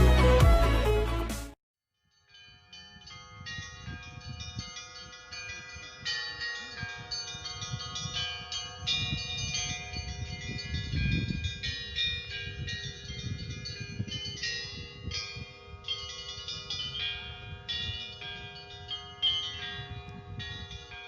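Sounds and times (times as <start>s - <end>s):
church bells ringing: 2.4s - 21.0s.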